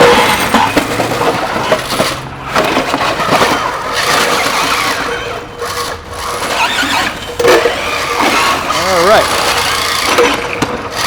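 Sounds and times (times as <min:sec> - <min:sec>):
drive motors whining: 0:00.0 - 0:11.0
robot parts clattering and scraping: 0:00.0 - 0:11.0.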